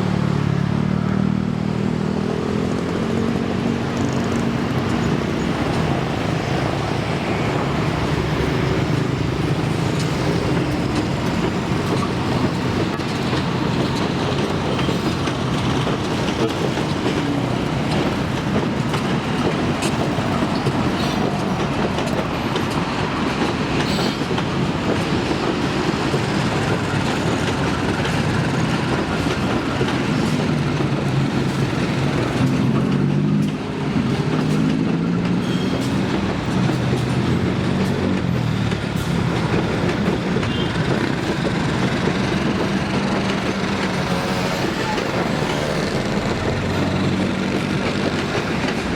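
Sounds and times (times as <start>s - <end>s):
train wheels on track: 0.0s - 48.9s.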